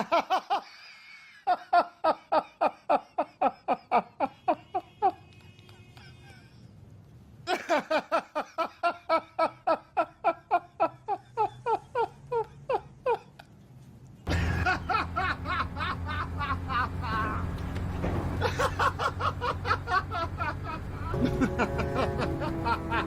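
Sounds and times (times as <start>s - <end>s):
person laughing: 0.0s - 6.7s, 7.5s - 13.5s, 14.3s - 17.5s, 18.4s - 23.0s.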